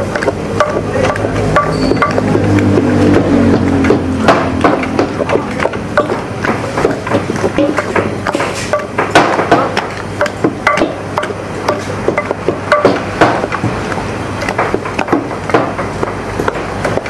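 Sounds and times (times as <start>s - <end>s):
wooden pestles pounding: 0.0s - 17.0s.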